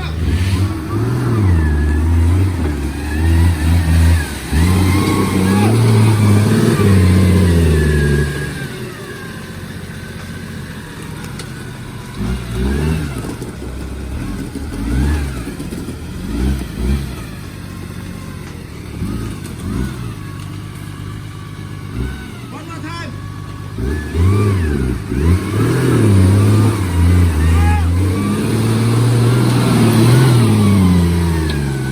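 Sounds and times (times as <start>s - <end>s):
off-road vehicle engine revving: 0.0s - 31.9s.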